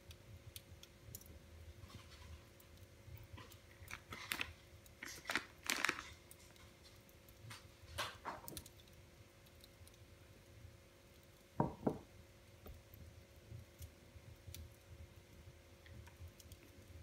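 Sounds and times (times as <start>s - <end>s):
faint steady hum: 0.0s - 17.0s
wood fire crackling and popping: 0.0s - 17.0s.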